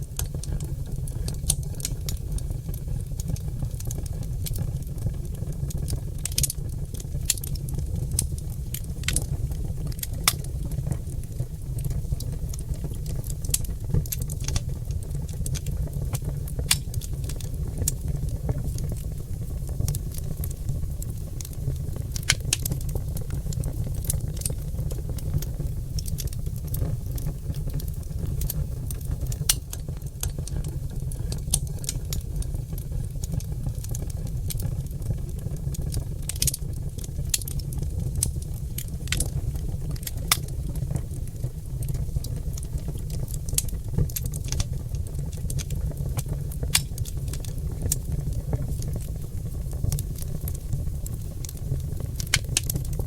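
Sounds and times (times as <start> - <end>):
logs crackling and popping in fire: 0.0 - 53.0
low rumble of fire: 0.0 - 53.0.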